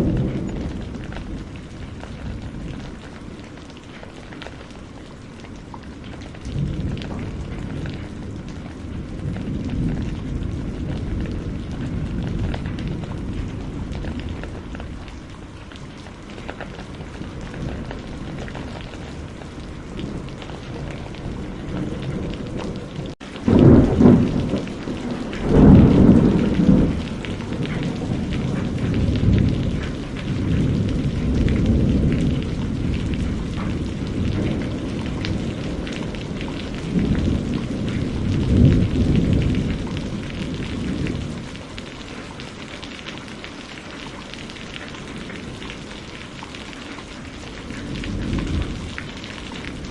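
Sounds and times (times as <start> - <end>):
rolling thunder: 0.0 - 42.4, 47.2 - 49.9
steady rainfall: 0.0 - 49.9.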